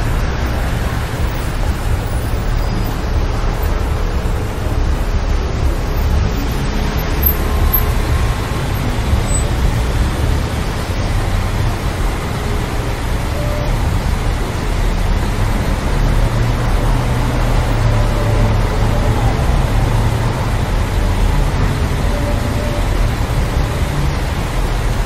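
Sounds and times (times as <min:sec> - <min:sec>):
passing cars and buses rumble: 0:00.0 - 0:25.0.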